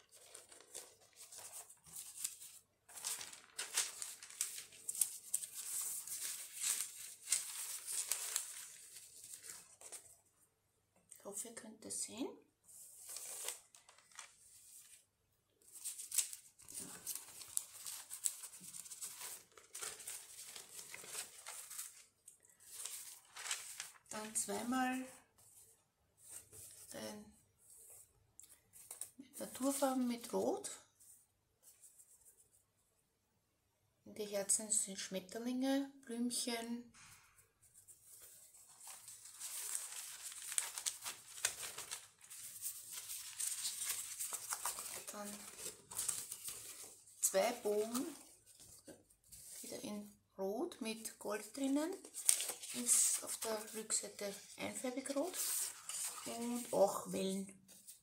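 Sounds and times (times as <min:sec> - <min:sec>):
paper rustling and crinkling: 0:00.0 - 0:10.4, 0:12.7 - 0:27.0, 0:27.6 - 0:32.6, 0:37.1 - 0:49.9, 0:51.1 - 0:58.0.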